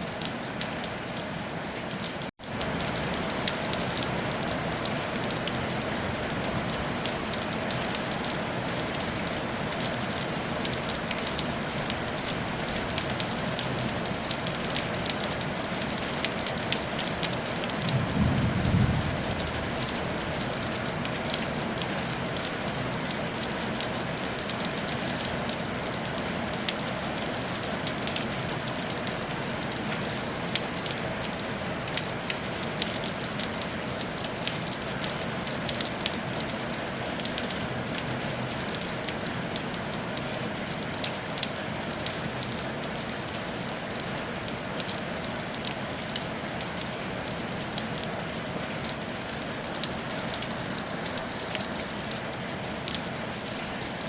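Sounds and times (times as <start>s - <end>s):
rain on a tile roof: 0.0s - 54.0s.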